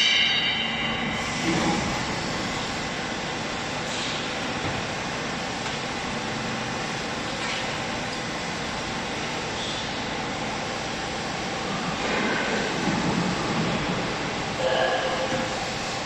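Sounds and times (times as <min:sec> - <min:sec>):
hydraulic press hum and hiss: 0:00.0 - 0:16.0.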